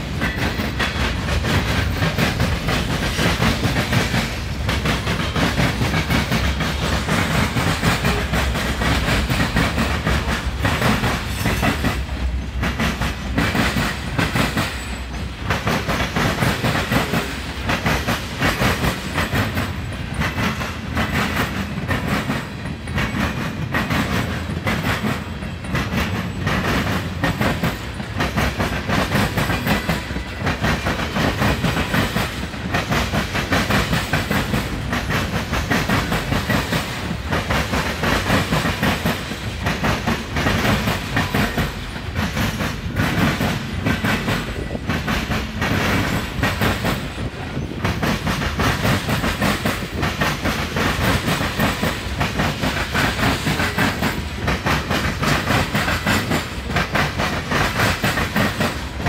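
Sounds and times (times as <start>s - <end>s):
freight train wheels clicking: 0.0s - 59.0s
low rumble of train: 0.0s - 59.0s.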